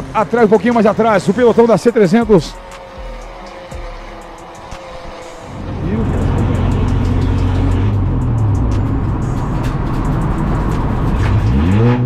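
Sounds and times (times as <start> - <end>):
racing car engine running hard: 0.0 - 12.0.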